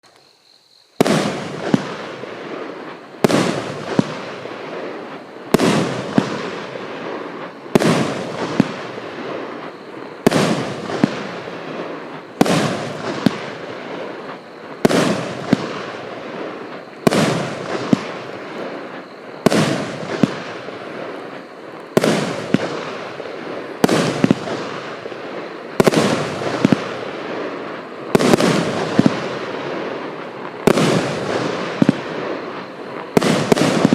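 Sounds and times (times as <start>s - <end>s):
firework bangs: 1.0s - 33.9s
weaker firework pops: 1.0s - 33.9s.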